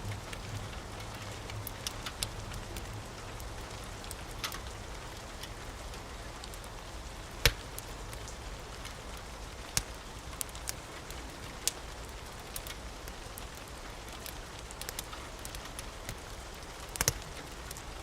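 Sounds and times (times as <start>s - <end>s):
rain hiss: 0.0s - 18.0s
wood fire crackling and popping: 0.0s - 18.0s.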